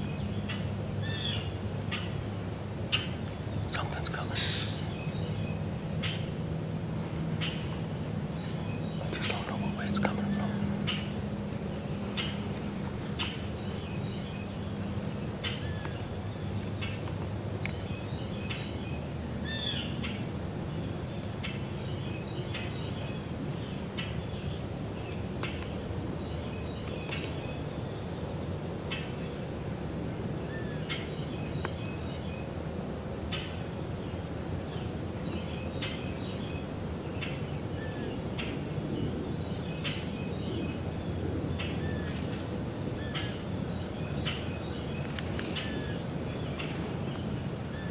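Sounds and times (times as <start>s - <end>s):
birds calling and chirping: 0.0s - 47.9s
high insect drone: 0.0s - 47.9s
low background noise: 0.0s - 47.9s.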